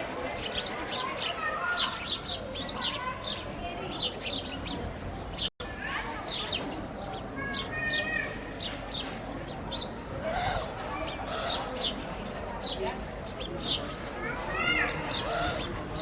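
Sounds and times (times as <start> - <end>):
sparrows chirping: 0.4 - 5.5, 6.2 - 16.0.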